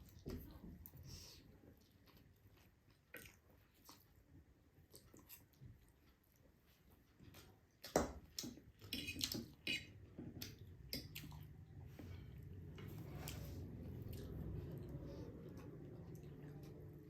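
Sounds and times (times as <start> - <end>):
chewing noodles with wet mouth clicks: 1.6 - 17.0.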